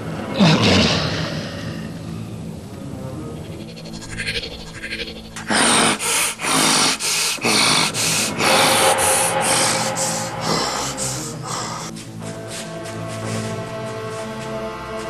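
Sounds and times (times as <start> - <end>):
faint background music: 0.0 - 15.0
heavy hissy breathing: 1.2 - 14.8.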